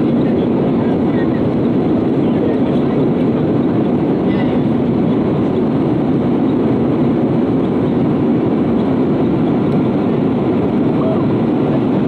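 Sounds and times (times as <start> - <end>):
airplane cabin engine rush: 0.0 - 12.0.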